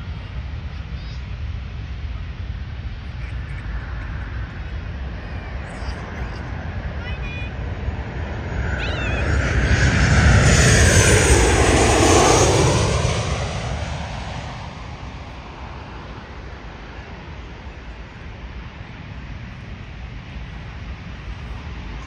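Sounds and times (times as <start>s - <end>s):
jet airliner engines passing overhead: 0.0s - 22.0s.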